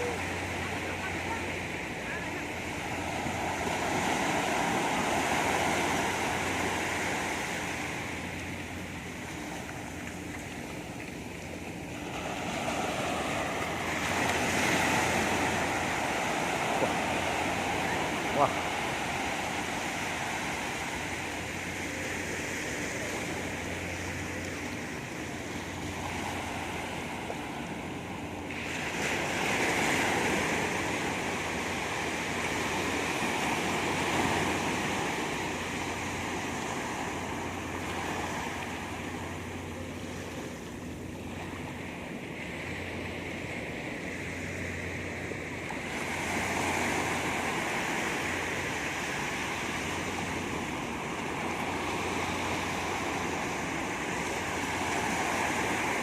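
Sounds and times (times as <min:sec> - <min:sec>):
surf breaking on a beach: 0:00.0 - 0:56.0.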